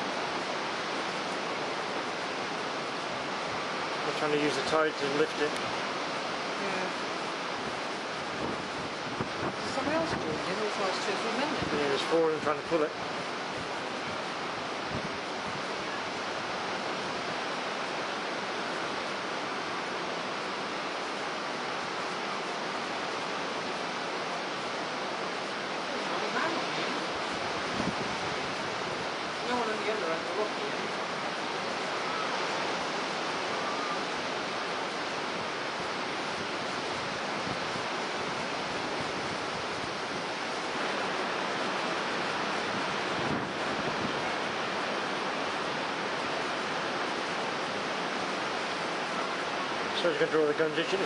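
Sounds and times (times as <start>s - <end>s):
storm surf breaking on rocks: 0.0s - 51.0s.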